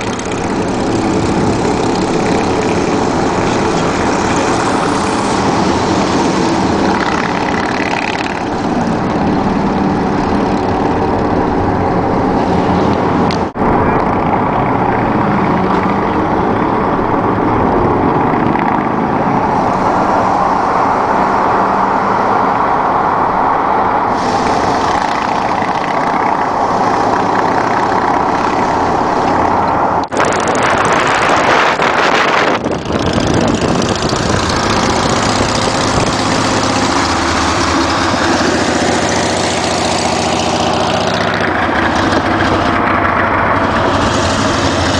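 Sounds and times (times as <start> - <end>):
tyres on road: 0.0 - 44.9
vehicle engines running: 0.0 - 44.9.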